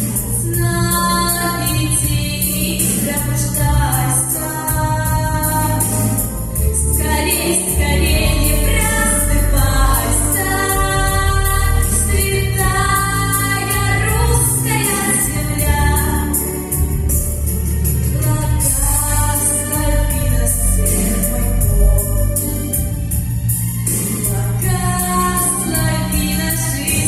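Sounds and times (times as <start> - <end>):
vocal group singing: 0.0 - 17.3, 17.9 - 21.8, 24.2 - 27.0
instrumental backing track: 0.0 - 27.0.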